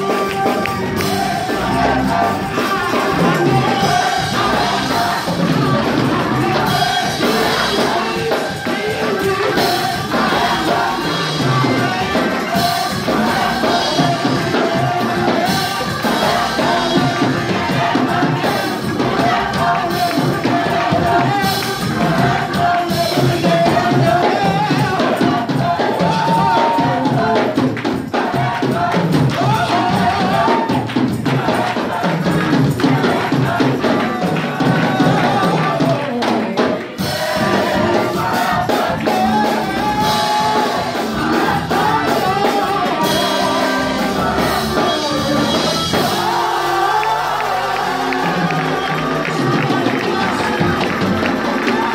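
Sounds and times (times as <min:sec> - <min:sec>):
drum kit: 0:00.0 - 0:51.9
gospel choir singing: 0:00.0 - 0:51.9
lead vocalist singing: 0:00.0 - 0:51.9.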